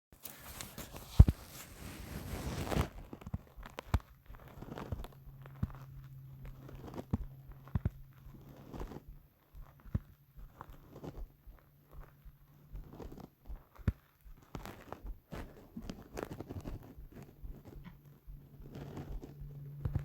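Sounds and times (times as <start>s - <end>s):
rustling and rubbing: 0.2s - 20.0s
stomach growling: 2.9s - 20.0s.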